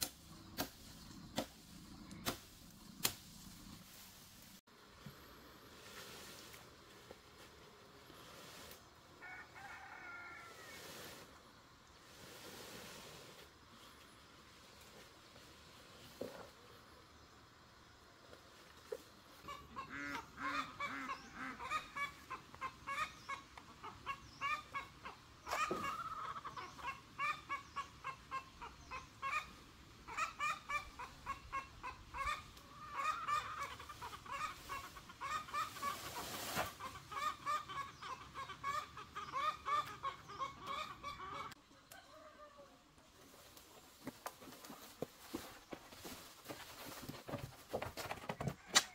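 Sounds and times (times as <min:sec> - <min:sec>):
poultry clucking and honking: 0:07.0 - 0:14.1, 0:16.1 - 0:48.9.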